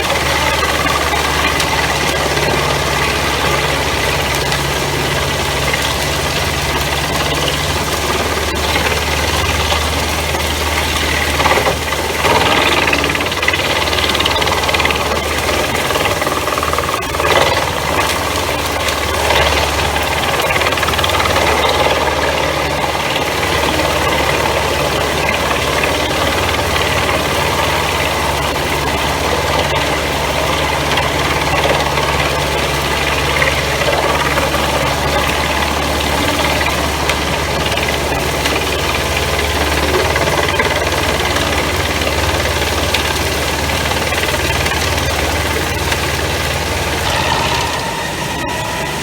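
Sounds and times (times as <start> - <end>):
tractor engine running: 0.0 - 49.0
wood chipper clatter: 0.0 - 49.0.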